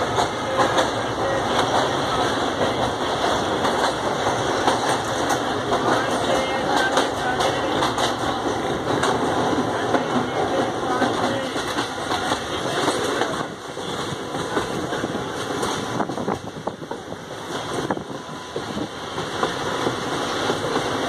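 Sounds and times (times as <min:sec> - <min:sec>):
sharp clicks of train wheels: 0:00.0 - 0:21.0
train wheels rumbling on track: 0:00.0 - 0:21.0.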